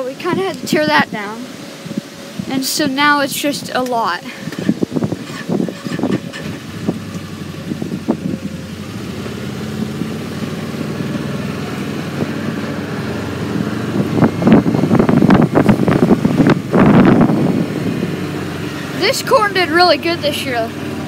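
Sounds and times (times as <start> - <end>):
vehicle engine running while driving: 0.0 - 21.0.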